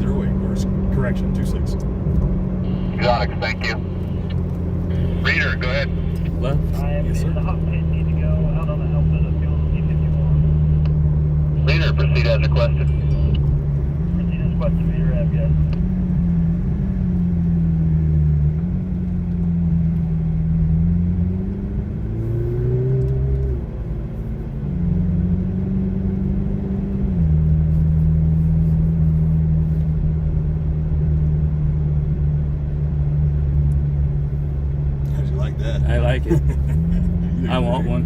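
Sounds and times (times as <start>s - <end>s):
car engine drone from inside: 0.0s - 38.0s.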